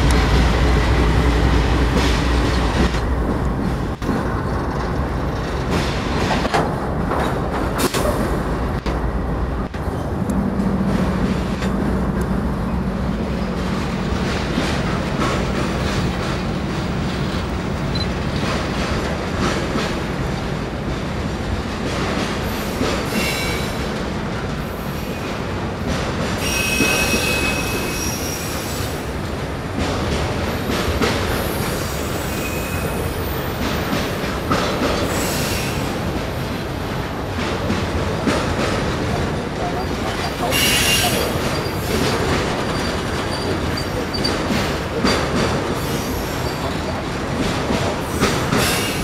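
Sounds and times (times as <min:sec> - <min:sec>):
diesel locomotive drone: 0:00.0 - 0:49.0
train wheels clacking on rails: 0:00.0 - 0:49.0.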